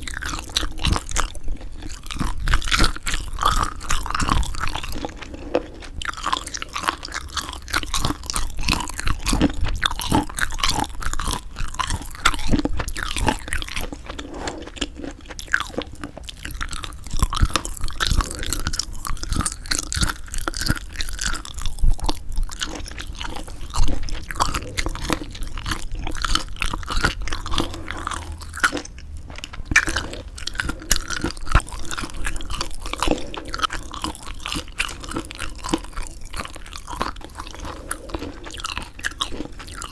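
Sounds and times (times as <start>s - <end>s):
chewing mouth sounds: 0.0s - 39.9s.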